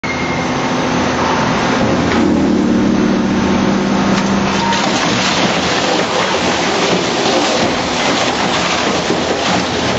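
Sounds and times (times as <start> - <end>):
machine hum: 0.5 - 9.9
tire shredder grinding: 1.8 - 9.9.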